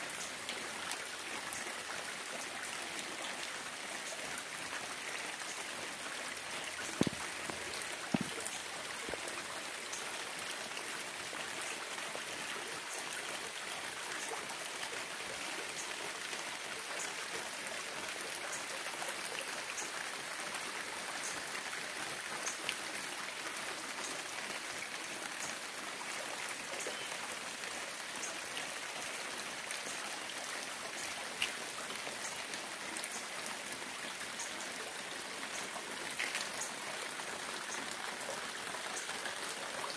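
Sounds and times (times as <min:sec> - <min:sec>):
close raindrops striking: 0:00.0 - 0:39.9
steady rain falling: 0:00.0 - 0:39.9.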